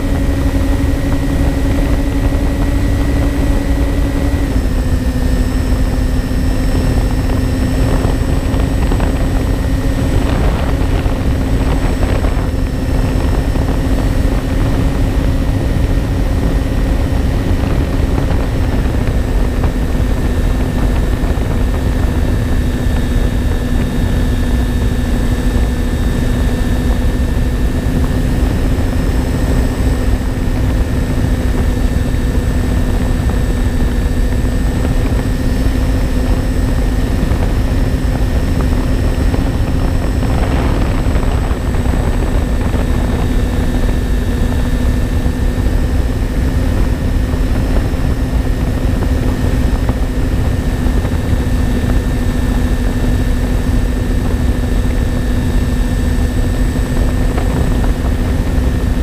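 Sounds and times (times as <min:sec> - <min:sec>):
electric plane motors droning: 0:00.0 - 0:59.0
wind rush on microphone: 0:00.0 - 0:59.0.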